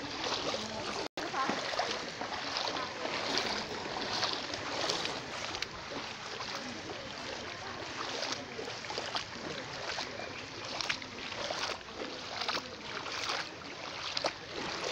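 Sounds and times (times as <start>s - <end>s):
water sloshing and splashing: 0.0s - 14.9s.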